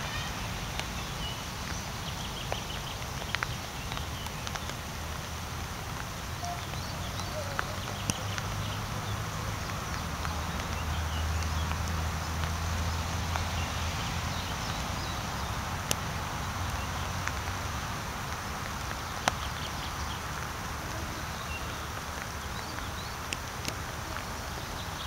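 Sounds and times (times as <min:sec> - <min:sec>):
rain hissing on leaves: 0:00.0 - 0:25.0.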